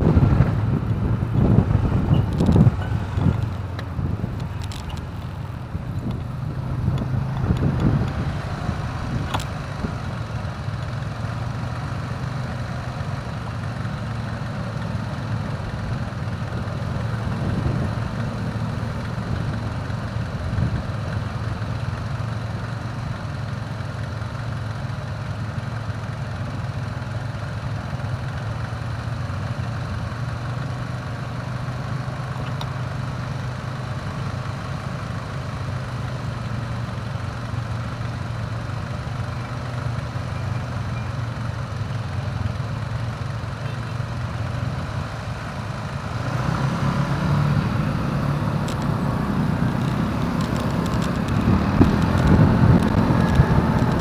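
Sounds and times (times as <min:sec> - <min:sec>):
motorcycle engines idling: 0:00.0 - 0:46.4, 0:47.0 - 0:54.0.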